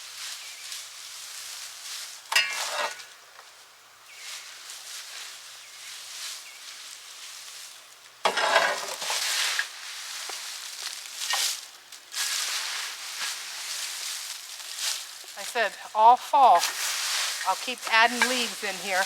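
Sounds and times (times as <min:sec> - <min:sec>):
dry leaves rustling and crunching: 0:00.0 - 0:19.0.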